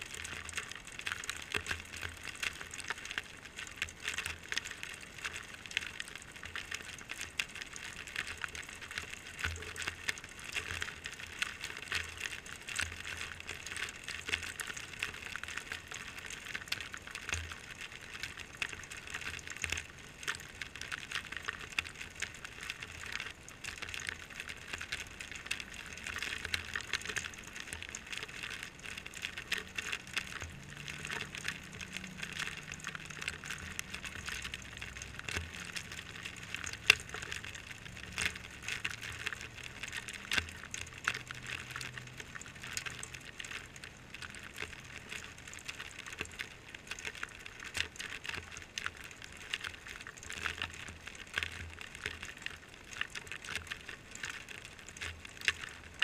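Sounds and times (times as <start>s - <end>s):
raindrops tapping: 0.0s - 56.0s
water trickling from downspout: 0.0s - 56.0s.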